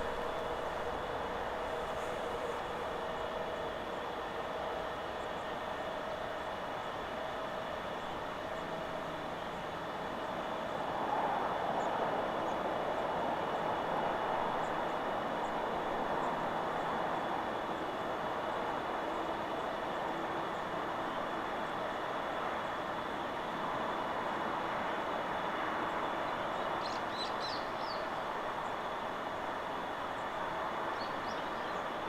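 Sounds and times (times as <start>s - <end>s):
wind blowing through trees: 0.0s - 32.0s.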